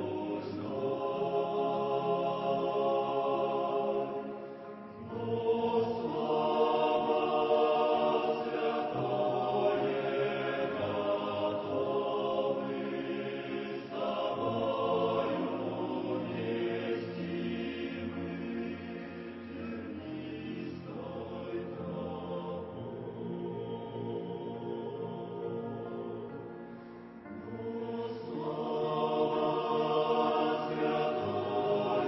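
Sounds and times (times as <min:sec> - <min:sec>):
choir singing a slow hymn: 0:00.0 - 0:32.0.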